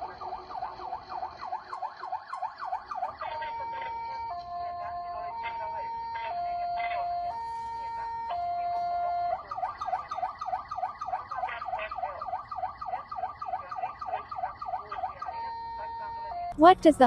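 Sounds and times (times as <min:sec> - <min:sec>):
emergency vehicle siren: 0:00.0 - 0:17.0.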